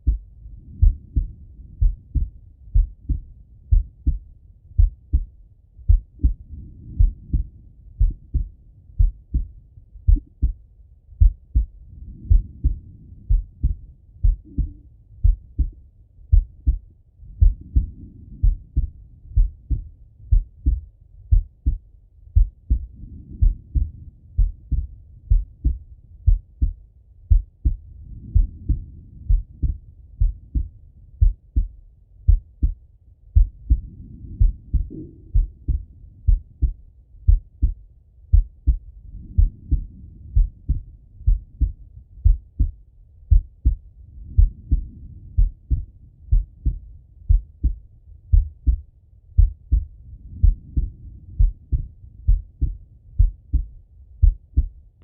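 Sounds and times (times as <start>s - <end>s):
heartbeat through stethoscope: 0.0s - 55.0s.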